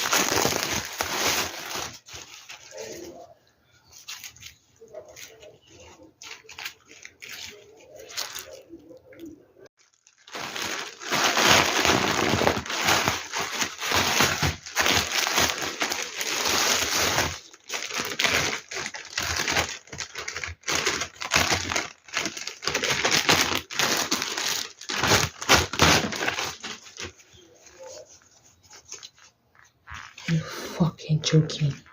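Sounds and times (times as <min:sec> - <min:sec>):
plastic packaging crinkling: 0:00.0 - 0:30.2.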